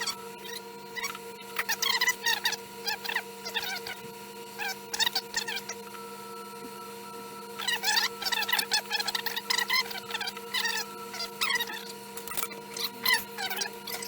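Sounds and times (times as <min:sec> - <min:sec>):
hot-air fan humming: 0:00.0 - 0:14.0.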